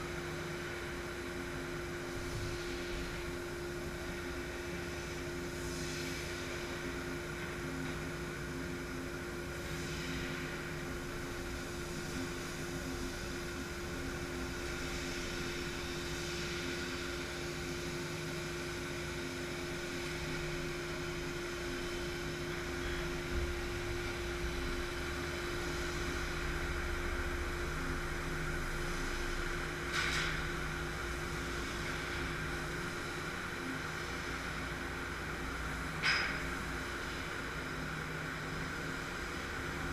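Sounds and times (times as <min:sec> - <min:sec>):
laser cutter hissing and droning: 0:00.0 - 0:39.9.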